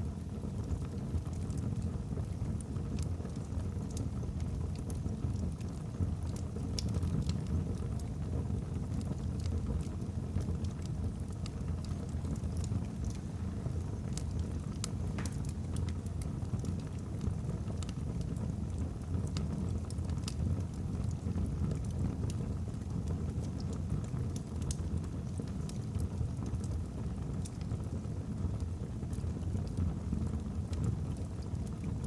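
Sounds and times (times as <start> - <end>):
burning logs crackling and popping: 0.0 - 32.0
fire rumbling in a fireplace: 0.0 - 32.0.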